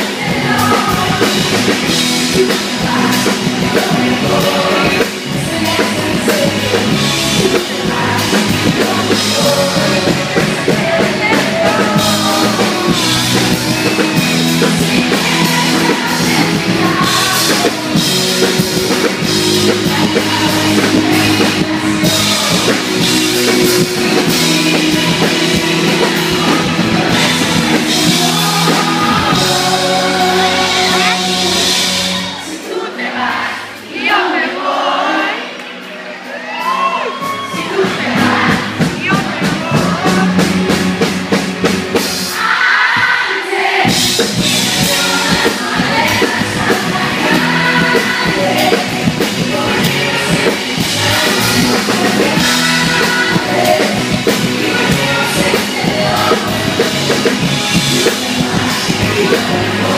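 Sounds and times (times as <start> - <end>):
lead vocals: 0.0 - 59.9
live pop-rock band: 0.0 - 59.9.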